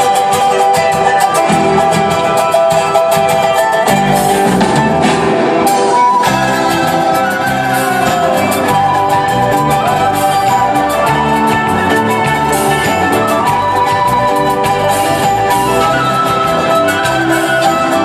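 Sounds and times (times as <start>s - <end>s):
live band playing upbeat music: 0.0s - 18.0s.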